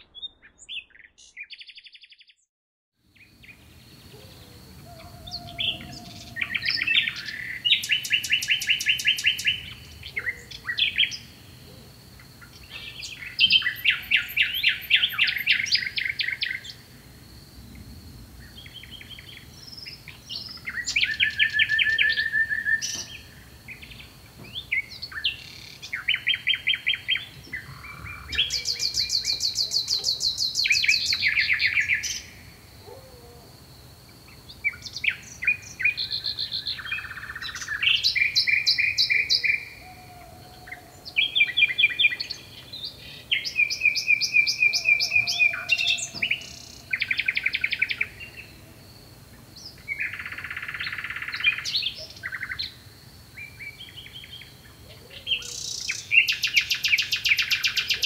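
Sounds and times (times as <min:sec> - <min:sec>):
songbirds singing: 0:00.0 - 0:02.5, 0:03.1 - 0:33.5, 0:34.1 - 0:58.0.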